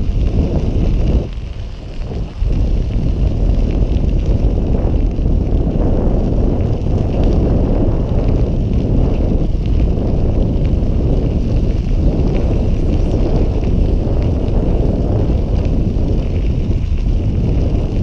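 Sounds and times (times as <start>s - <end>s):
bike tyres rolling on gravel: 0.0s - 18.0s
wind rushing over microphone: 0.0s - 18.0s.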